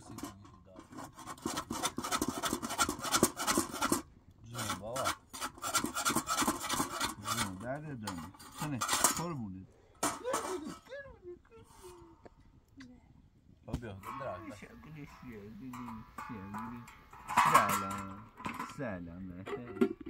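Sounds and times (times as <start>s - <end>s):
flatbread scraping on iron griddle: 0.0s - 9.4s, 10.0s - 10.9s, 13.9s - 20.0s.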